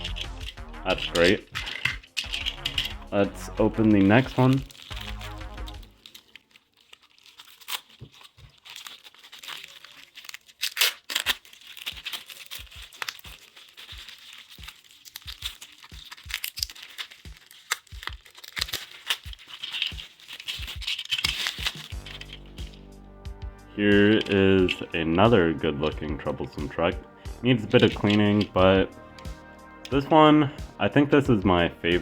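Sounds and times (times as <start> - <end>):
packaging crinkling and tearing: 0.0 - 22.9, 23.8 - 26.9, 27.6 - 30.3.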